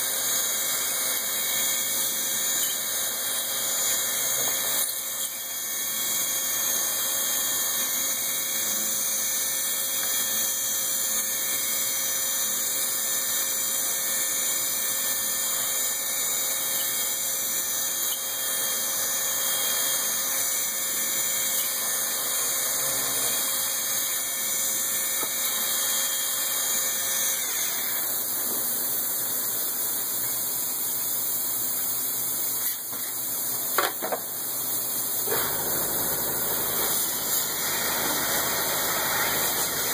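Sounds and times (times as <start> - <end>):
machine tool running: 0.0 - 31.0, 33.6 - 39.9.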